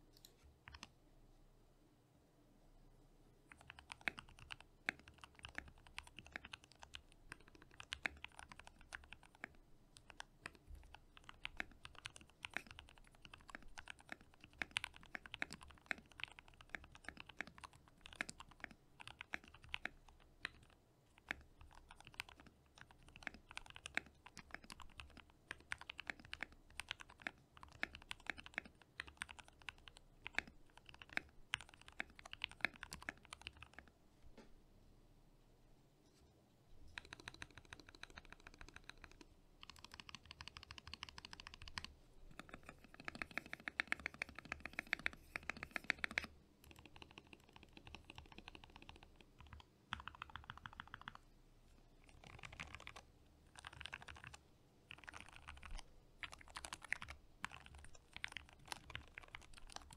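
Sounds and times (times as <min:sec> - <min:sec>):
mechanical keyboard typing: 0:00.2 - 0:00.9, 0:03.5 - 0:33.9, 0:36.9 - 0:51.2, 0:52.0 - 0:59.9.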